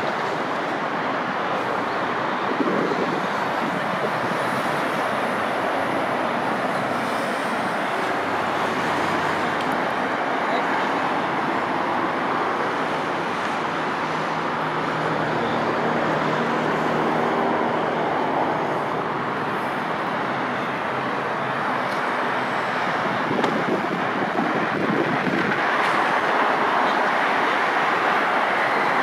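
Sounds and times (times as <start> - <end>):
highway traffic passing: 0.0 - 29.0.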